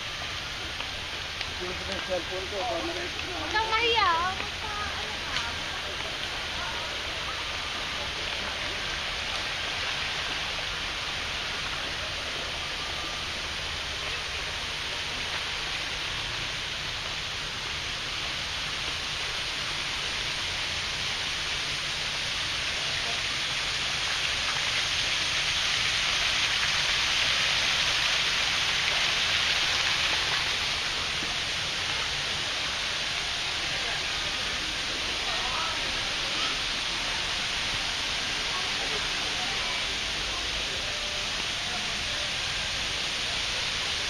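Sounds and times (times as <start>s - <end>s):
running water hiss: 0.0s - 44.0s.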